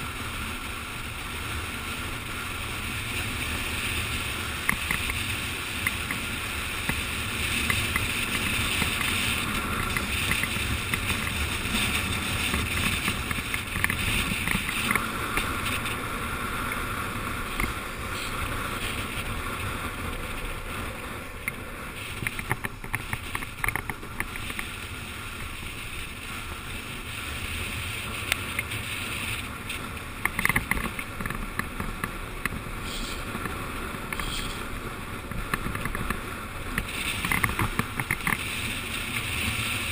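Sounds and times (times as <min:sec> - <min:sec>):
skateboard wheels rolling on asphalt: 0:00.0 - 0:39.9.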